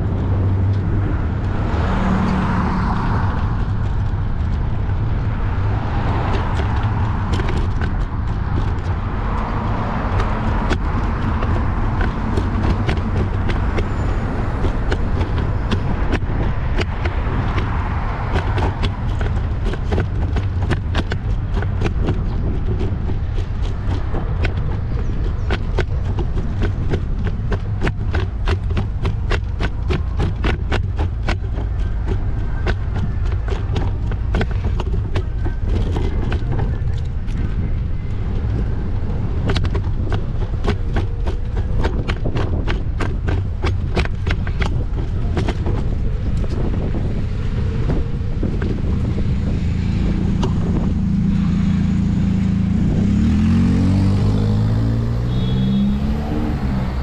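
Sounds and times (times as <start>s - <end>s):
deep wind rumble on microphone: 0.0s - 57.0s.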